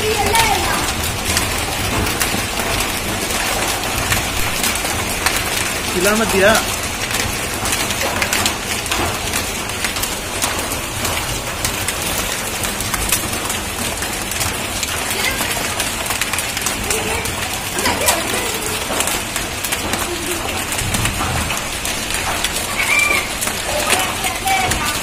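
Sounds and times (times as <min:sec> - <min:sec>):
hailstones clicking: 0:00.0 - 0:25.0
hailstorm hiss: 0:00.0 - 0:25.0.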